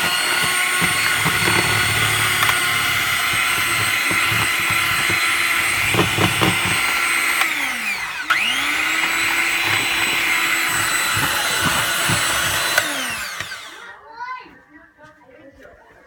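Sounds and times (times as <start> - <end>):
motor whining: 0.0 - 14.0.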